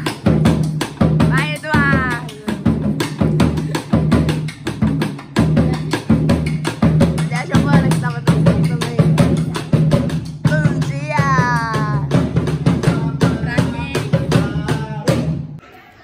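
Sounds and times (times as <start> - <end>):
pop music with drum beat: 0.0 - 15.6.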